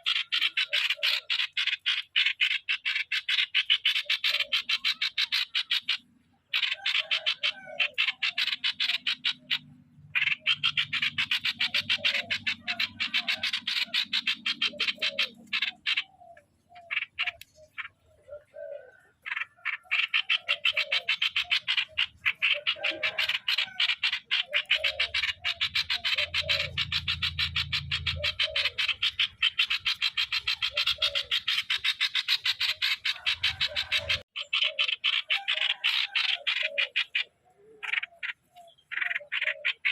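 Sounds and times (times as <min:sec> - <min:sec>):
bulbul calling: 0:00.0 - 0:39.9.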